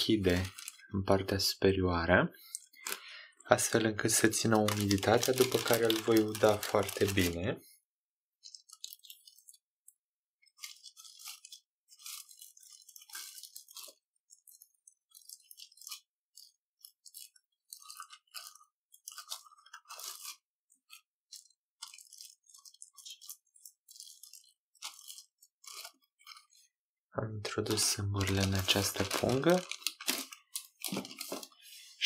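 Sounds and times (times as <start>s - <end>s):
plastic bag crinkling: 0.0s - 0.9s, 2.4s - 7.5s, 8.4s - 26.7s, 27.7s - 32.0s.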